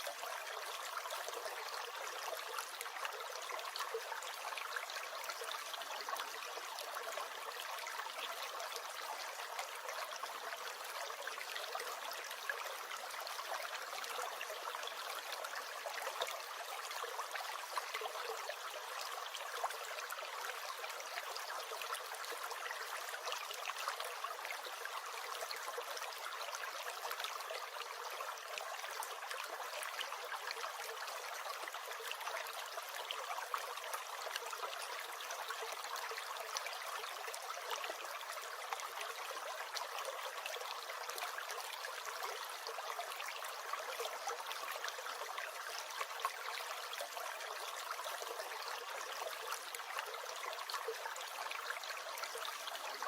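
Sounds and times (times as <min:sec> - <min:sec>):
stream flowing and gurgling: 0:00.0 - 0:53.0.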